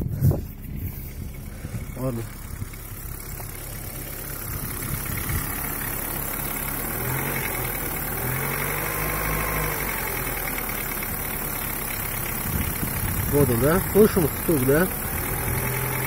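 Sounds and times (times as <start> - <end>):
car engine idling with knock: 0.0 - 16.0.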